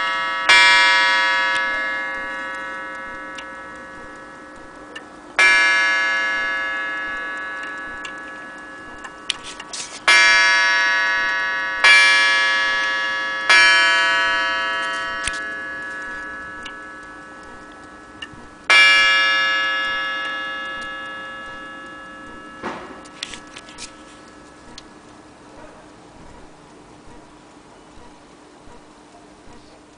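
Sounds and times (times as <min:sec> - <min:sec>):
clock strike bell ringing: 0:00.0 - 0:26.7
faint clock movement clicks: 0:00.0 - 0:29.9.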